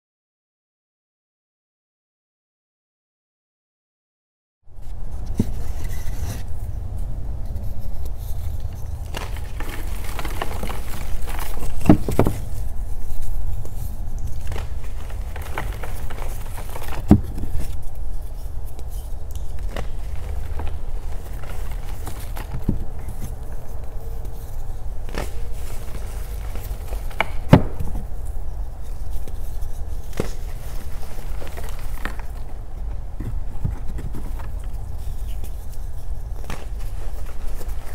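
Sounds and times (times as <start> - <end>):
steady low rumble: 4.7 - 37.9
chalk crumbling crackles: 4.8 - 37.9.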